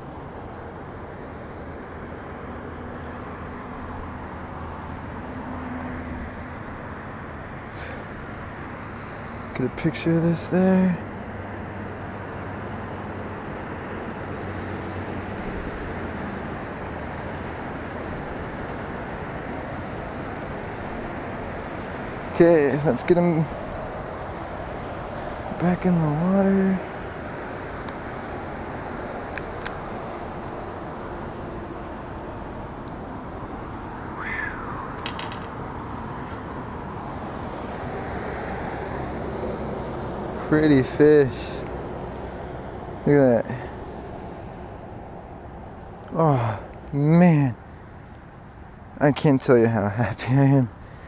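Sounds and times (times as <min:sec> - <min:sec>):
distant road traffic rumble: 0:00.0 - 0:51.0
outdoor background noise: 0:00.0 - 0:51.0.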